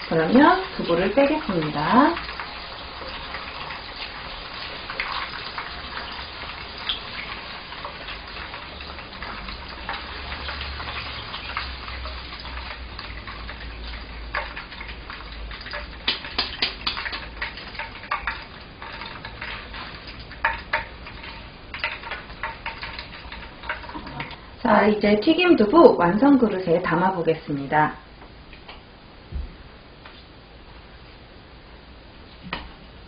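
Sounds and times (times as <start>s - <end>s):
oil sizzling in a frying pan: 0.0s - 27.7s.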